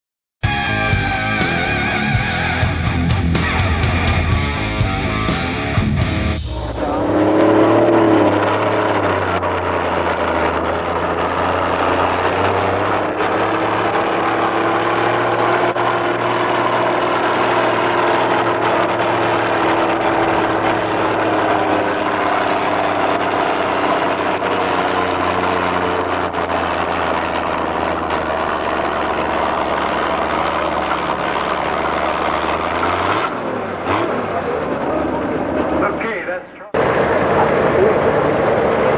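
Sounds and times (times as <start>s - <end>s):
tractor engine running steadily: 0.5s - 38.9s.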